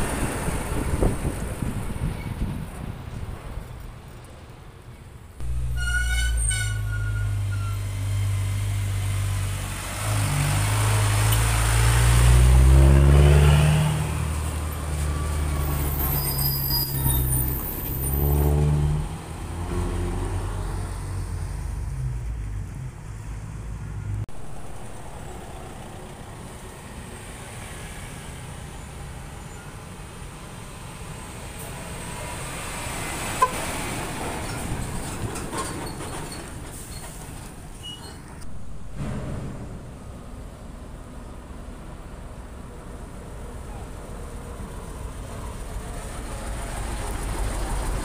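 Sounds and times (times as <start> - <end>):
diesel truck passing: 0.0 - 3.7, 5.4 - 37.7, 38.4 - 48.0
traffic noise: 0.0 - 48.0.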